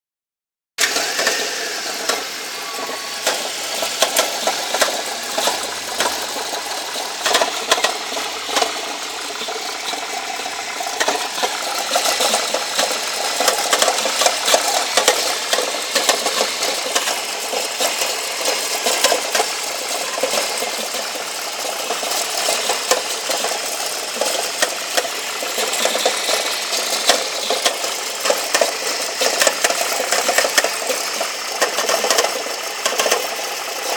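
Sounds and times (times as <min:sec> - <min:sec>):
alternator knocking rattle: 0:00.8 - 0:33.9
car engine running: 0:00.8 - 0:33.9.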